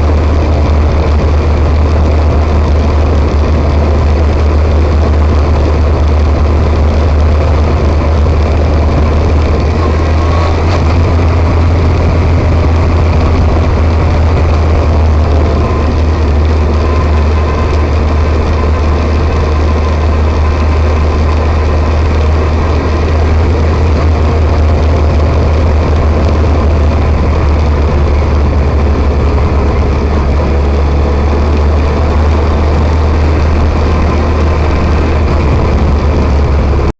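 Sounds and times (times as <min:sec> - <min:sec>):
motorcycle low rumble: 0:00.0 - 0:36.9.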